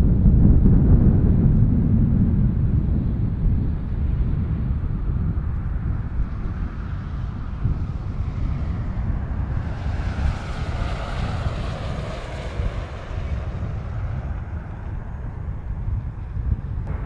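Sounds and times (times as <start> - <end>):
jet airliner roar: 0.0 - 17.0
wind buffeting microphone: 0.0 - 17.0.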